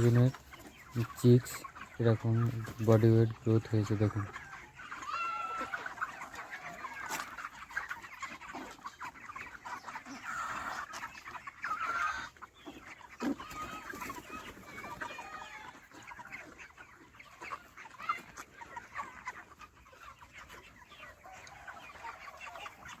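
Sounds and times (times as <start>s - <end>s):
chickens clucking and chirping: 0.0s - 23.0s.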